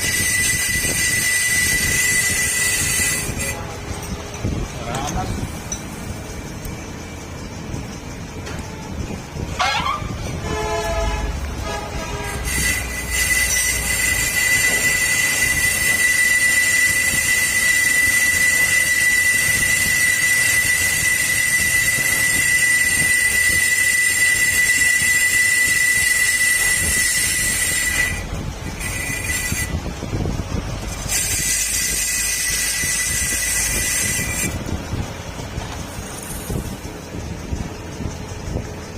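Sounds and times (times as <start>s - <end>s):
metal-cutting squeal: 0.0s - 35.0s, 35.7s - 37.6s.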